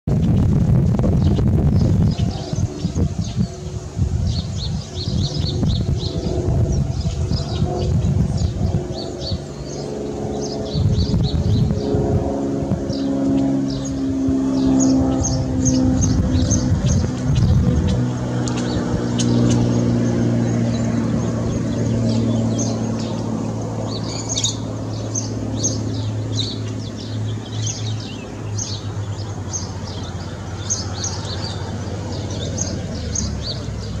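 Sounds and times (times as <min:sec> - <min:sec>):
low motor hum: 0:00.0 - 0:34.0
birds chirping: 0:00.1 - 0:34.0.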